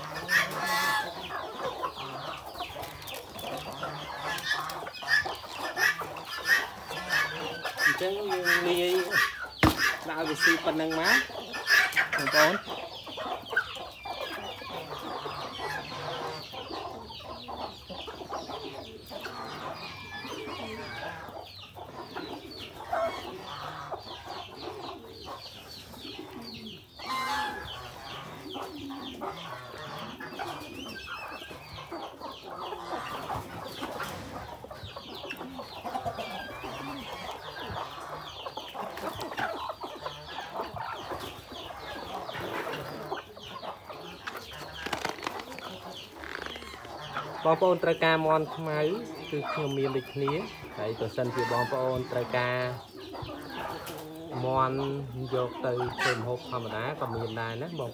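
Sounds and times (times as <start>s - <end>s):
chickens clucking: 0.0s - 57.9s.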